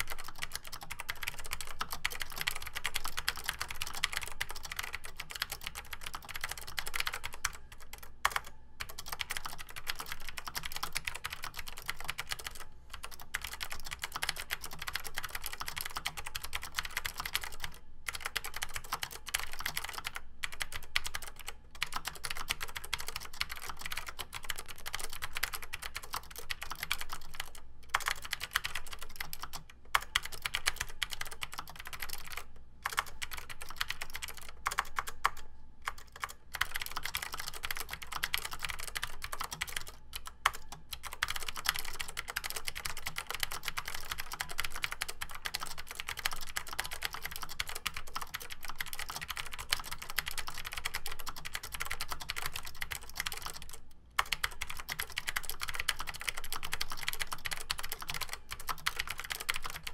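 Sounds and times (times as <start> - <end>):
clicky mechanical keyboard typing: 0.0 - 59.9.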